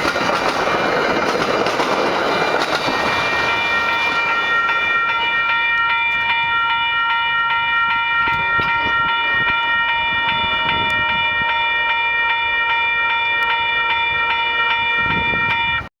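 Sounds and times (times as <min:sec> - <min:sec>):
railroad crossing bell ringing: 0:00.0 - 0:15.9.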